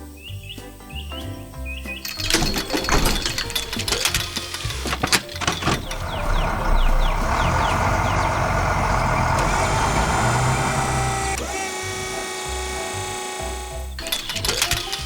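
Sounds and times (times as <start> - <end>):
truck engine running: 2.3 - 15.0.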